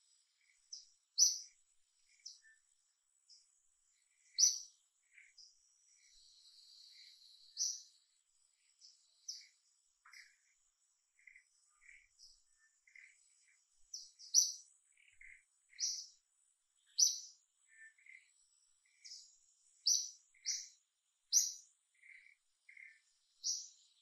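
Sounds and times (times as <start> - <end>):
birds chirping: 0.1 - 24.0.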